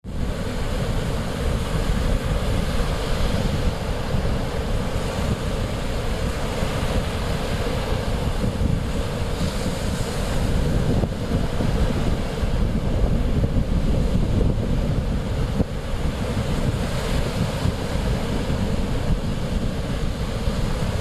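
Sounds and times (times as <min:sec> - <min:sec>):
surf washing against shore: 0:00.0 - 0:21.0
wind rumbling on microphone: 0:00.0 - 0:21.0.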